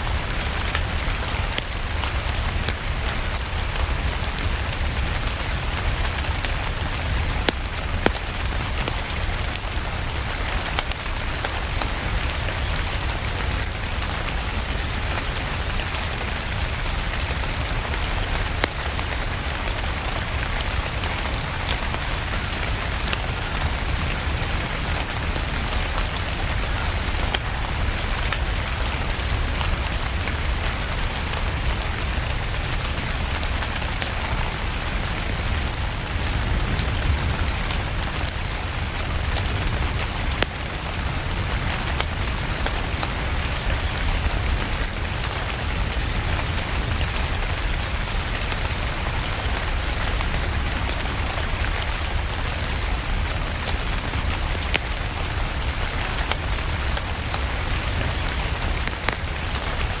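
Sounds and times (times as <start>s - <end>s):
steady rain: 0.0s - 60.0s
wood fire crackling: 0.0s - 60.0s.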